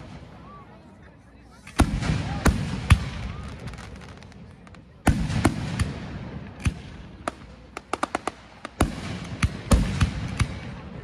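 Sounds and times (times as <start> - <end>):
fireworks sharp cracks: 1.6 - 11.0
fireworks loud bangs: 1.7 - 11.0.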